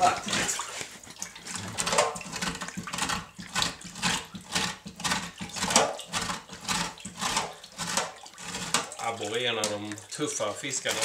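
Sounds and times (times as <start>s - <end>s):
grater scraping fish scales: 0.0s - 9.7s
water sloshing: 0.0s - 11.0s.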